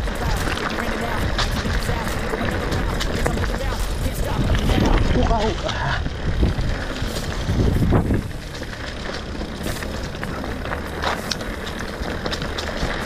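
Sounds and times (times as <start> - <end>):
bike tyres crunching leaves: 0.0 - 13.0
low rumble: 0.0 - 13.0.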